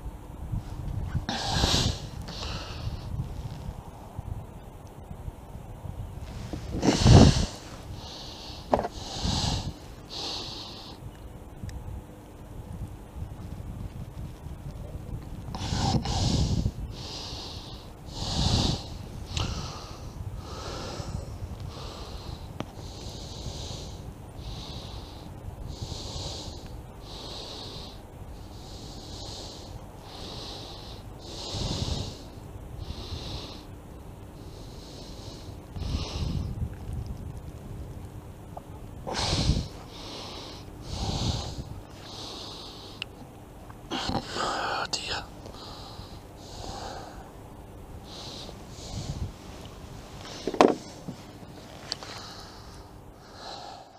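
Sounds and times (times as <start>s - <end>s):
man breathing heavily through nose: 0.0s - 3.7s, 6.2s - 11.1s, 15.4s - 36.6s, 39.0s - 43.2s, 43.9s - 53.9s.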